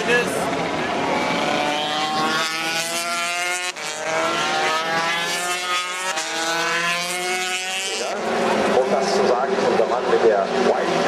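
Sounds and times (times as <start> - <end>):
motorcycle engine accelerating: 0.5 - 11.0.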